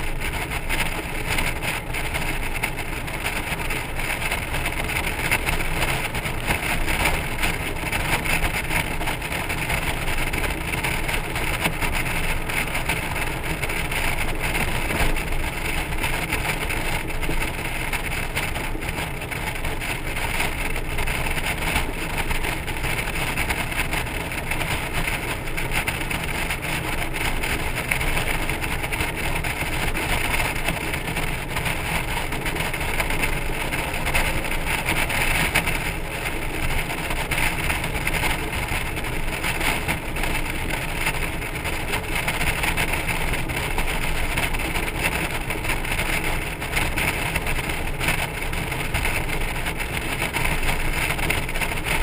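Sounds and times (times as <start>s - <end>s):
motorcycle engine hum: 0.0s - 48.4s
wind and road noise: 0.0s - 52.0s.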